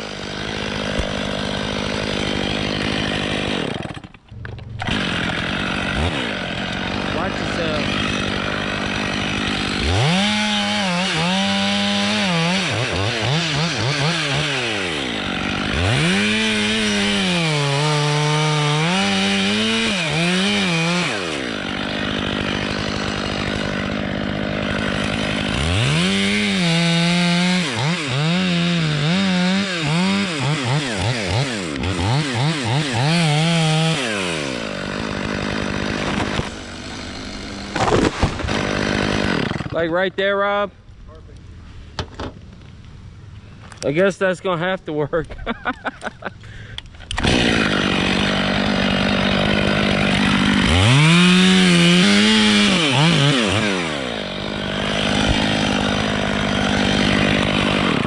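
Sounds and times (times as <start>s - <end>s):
chainsaw cutting wood: 0.0s - 40.1s, 45.4s - 58.0s.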